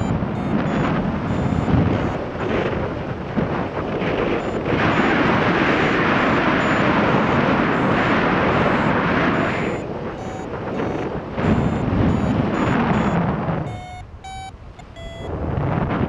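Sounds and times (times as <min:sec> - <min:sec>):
faint high beeps: 0:00.0 - 0:02.2, 0:04.3 - 0:15.3
wind rushing over microphone: 0:00.0 - 0:16.0.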